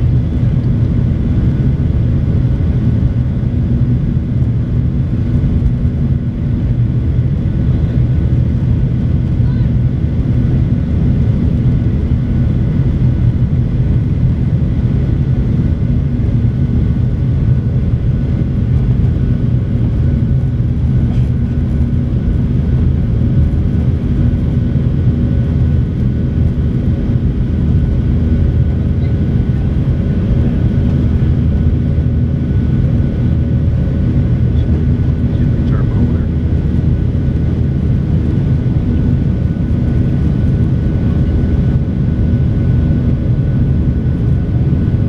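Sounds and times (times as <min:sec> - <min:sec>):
jet engine cabin rumble: 0:00.0 - 0:45.0.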